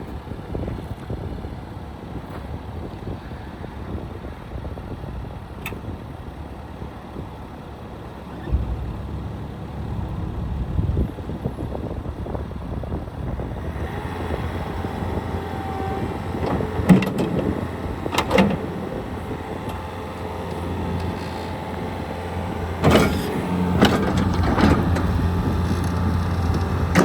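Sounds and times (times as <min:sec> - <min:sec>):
diesel engine running: 0:00.2 - 0:27.0.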